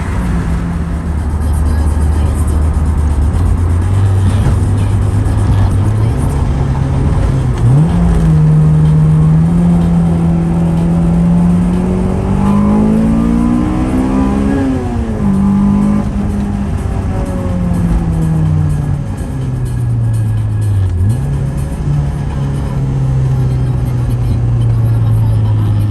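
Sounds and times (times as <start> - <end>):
car engine accelerating: 0.0 - 25.9.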